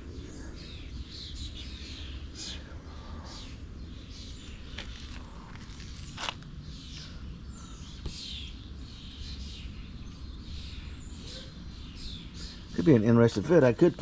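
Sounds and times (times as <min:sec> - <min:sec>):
birds chirping: 0:00.0 - 0:14.0
low steady hum: 0:00.0 - 0:14.0.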